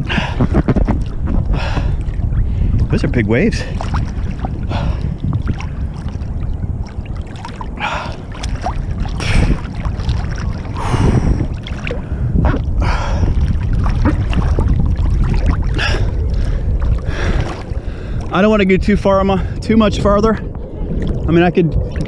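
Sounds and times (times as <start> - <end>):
low rumble of waves: 0.0 - 22.0
wind on microphone: 0.0 - 22.0
seawater splashing against camera: 0.1 - 18.3.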